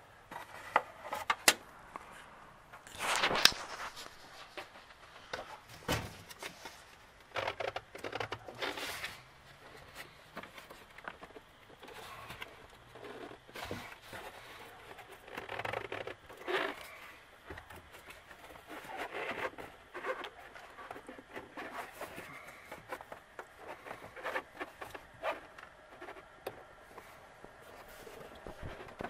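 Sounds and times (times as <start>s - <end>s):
plastic airbox scraping and knocking: 2.9s - 29.0s.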